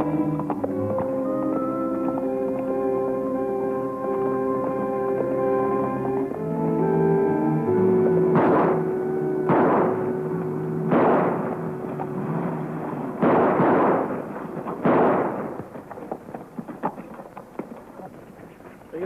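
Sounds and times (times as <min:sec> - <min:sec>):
background music: 0:00.0 - 0:15.5.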